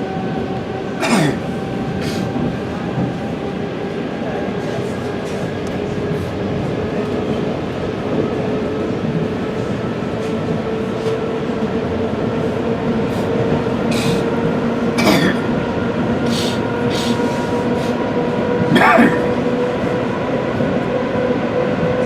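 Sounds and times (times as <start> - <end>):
train wheels running on rails: 0.0 - 22.0.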